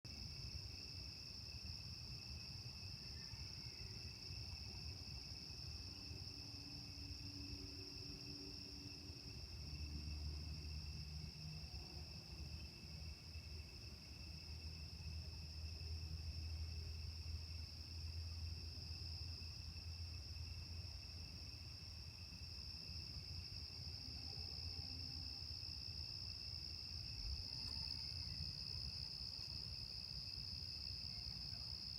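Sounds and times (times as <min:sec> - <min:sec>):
night insects trilling: 0:00.1 - 0:31.9.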